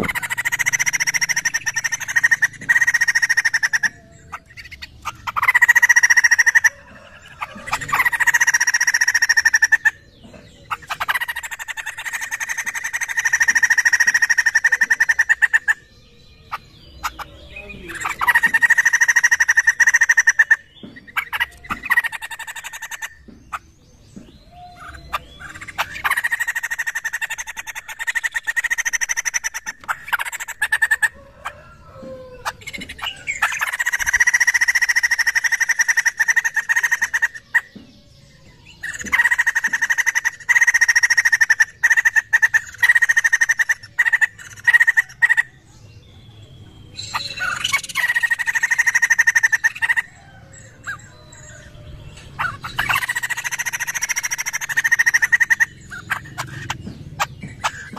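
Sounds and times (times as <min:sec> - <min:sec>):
bird harsh chattering calls: 0:00.0 - 0:57.9.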